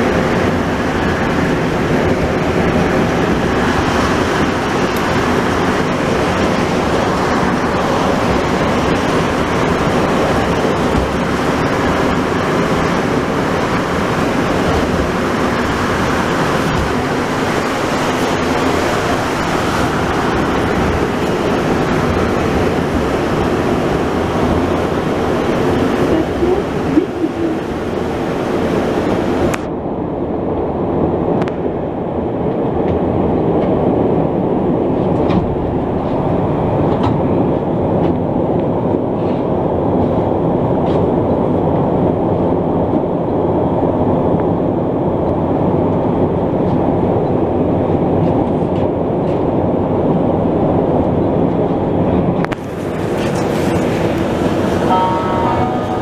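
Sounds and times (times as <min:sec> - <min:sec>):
train running gear rumble: 0:00.0 - 0:56.0.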